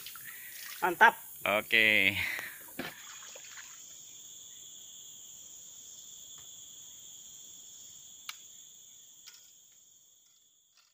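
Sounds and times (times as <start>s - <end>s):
insect chorus drone: 0.0s - 10.9s.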